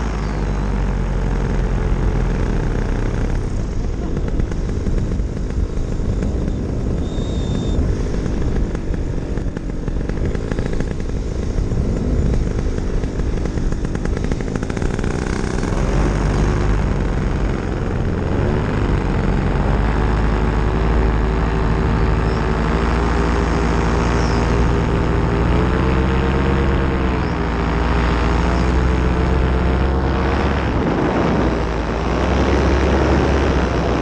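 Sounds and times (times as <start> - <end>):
paramotor engine and propeller: 0.0 - 34.0
wind on microphone: 0.0 - 34.0.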